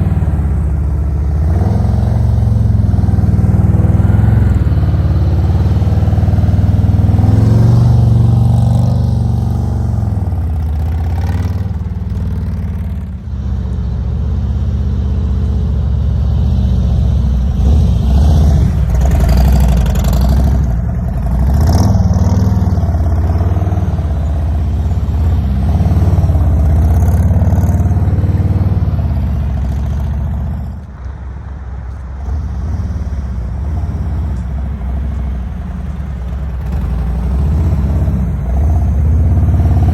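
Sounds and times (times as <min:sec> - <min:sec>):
motorcycle engine at low speed: 0:00.0 - 0:39.9.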